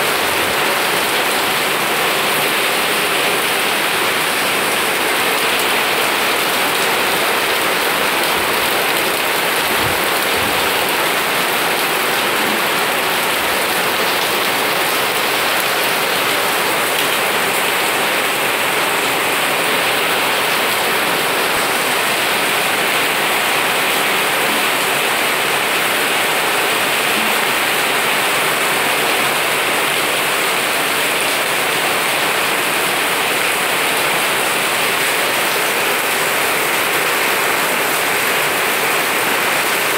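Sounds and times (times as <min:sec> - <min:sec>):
heavy rain on plants and paving: 0:00.0 - 0:39.9.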